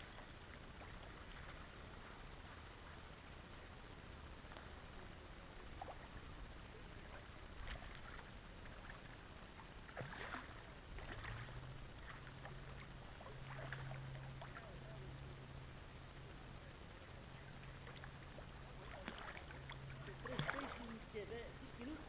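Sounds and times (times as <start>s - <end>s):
low steady hum: 0.0s - 22.0s
water lapping: 0.0s - 22.0s.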